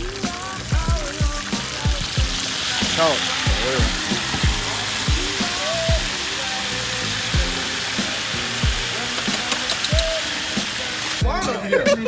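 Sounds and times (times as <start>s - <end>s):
food sizzling in hot oil: 0.0s - 11.5s
music with deep bass beat: 0.0s - 12.0s.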